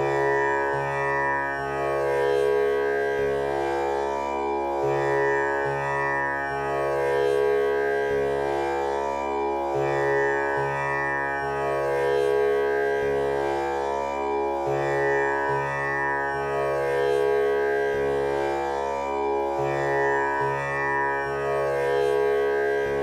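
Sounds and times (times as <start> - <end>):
tanpura strings plucked: 0.0 - 23.0.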